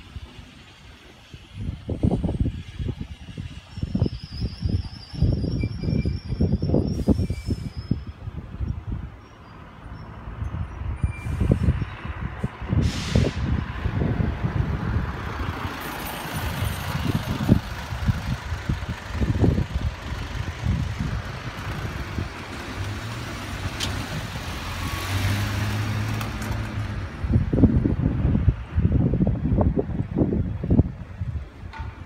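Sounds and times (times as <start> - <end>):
outdoor traffic: 0.0 - 32.0
wind buffeting the microphone: 0.0 - 32.0.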